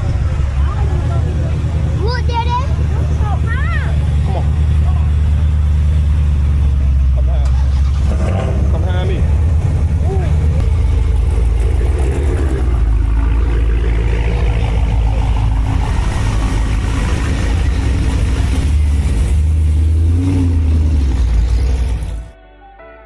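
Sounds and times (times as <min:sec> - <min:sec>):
car engine rumbling: 0:00.0 - 0:22.4.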